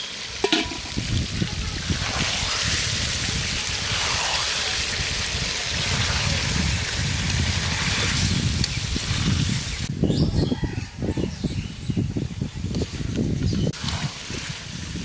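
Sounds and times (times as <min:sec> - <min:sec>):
curry sizzling and bubbling: 0:00.0 - 0:09.9, 0:12.7 - 0:15.0.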